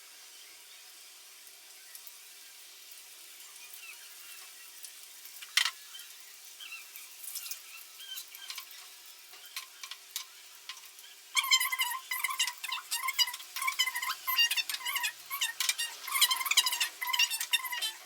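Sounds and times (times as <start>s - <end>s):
onion rings sizzling in oil: 0.0s - 18.0s.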